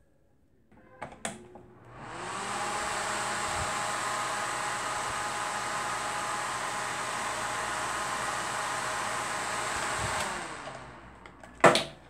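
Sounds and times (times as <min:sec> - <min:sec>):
microwave fan whirring: 0:01.7 - 0:11.5.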